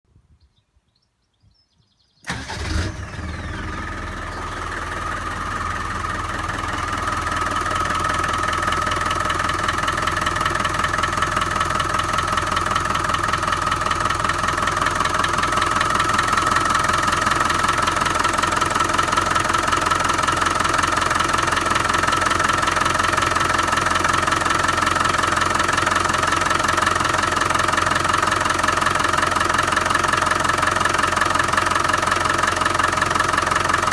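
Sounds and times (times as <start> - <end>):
diesel engine starting and idling: 2.2 - 33.9
engine knock: 2.3 - 33.9.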